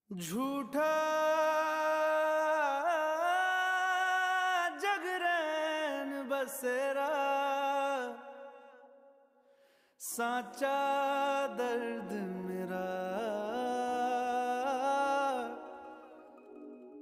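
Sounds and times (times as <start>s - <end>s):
man singing slowly: 0.1s - 8.7s, 10.0s - 16.4s.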